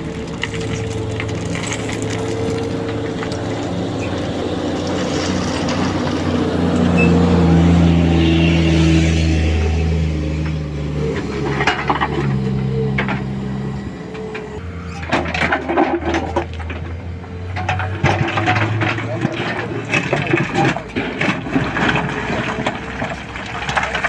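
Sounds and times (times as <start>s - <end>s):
diesel engine running and revving: 0.0s - 24.0s.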